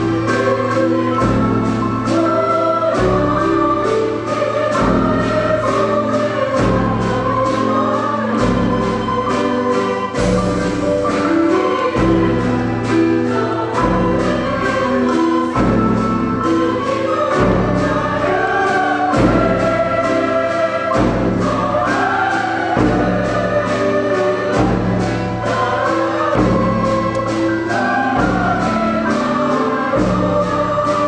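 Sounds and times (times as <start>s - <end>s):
children's choir singing: 0.0s - 31.0s
instrumental accompaniment with beat: 0.0s - 31.0s.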